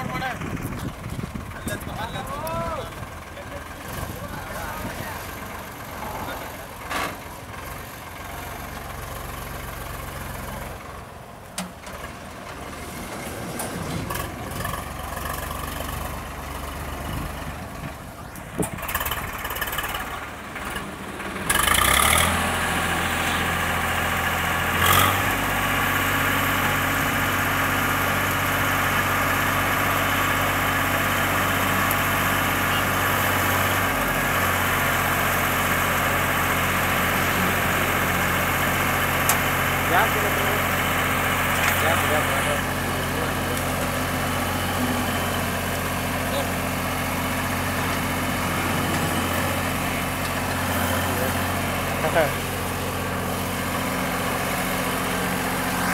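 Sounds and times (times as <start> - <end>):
tractor diesel engine humming: 0.0 - 55.9.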